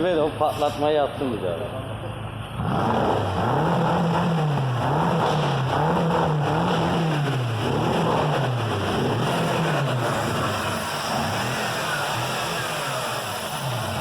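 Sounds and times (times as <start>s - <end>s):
car engine revving: 2.5s - 14.0s.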